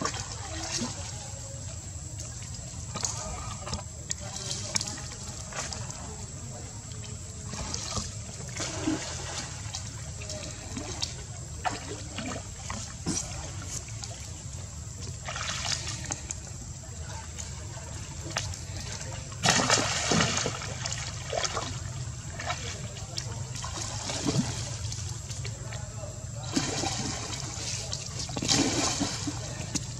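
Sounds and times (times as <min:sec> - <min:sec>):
water sloshing and splashing: 0:00.0 - 0:29.9.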